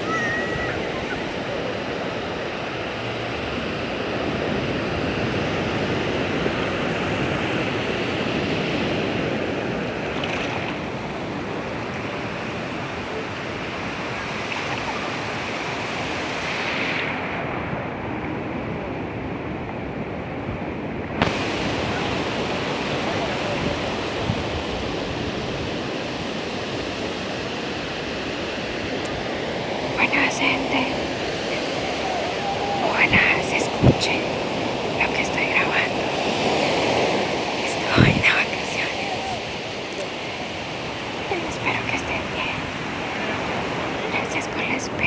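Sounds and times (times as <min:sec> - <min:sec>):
waves breaking on beach: 0:00.0 - 0:45.0.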